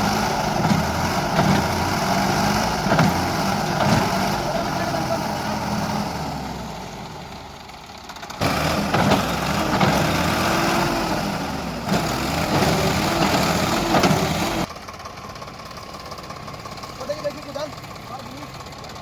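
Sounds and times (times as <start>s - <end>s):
diesel engine revving under load: 0.0s - 19.0s.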